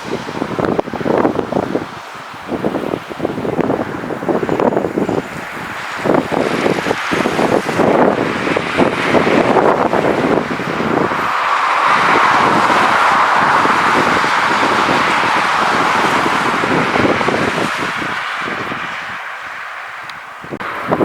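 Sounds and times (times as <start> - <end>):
jet airliner engine noise: 0.0 - 21.0
wind buffeting microphone: 0.0 - 21.0.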